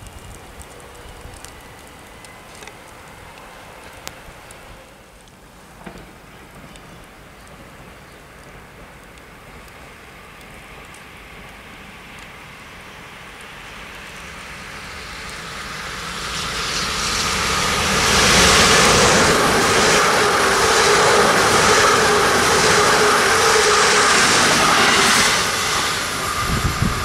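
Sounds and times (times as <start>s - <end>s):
electric train passing at speed: 0.0s - 5.1s, 5.8s - 27.0s.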